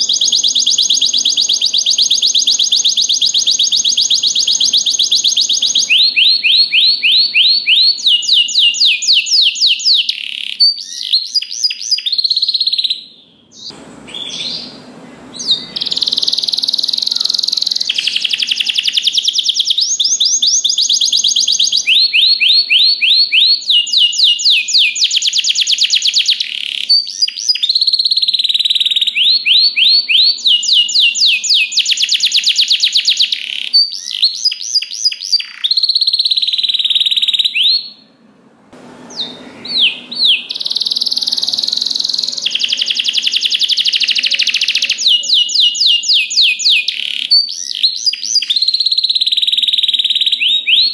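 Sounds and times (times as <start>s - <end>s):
canary singing trills: 0.0s - 38.1s, 39.1s - 50.9s.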